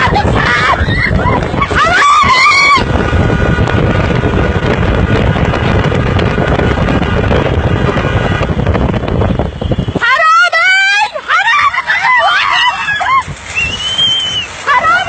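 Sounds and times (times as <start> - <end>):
car engine and road noise: 0.0 - 15.0
wind buffeting microphone: 0.0 - 15.0.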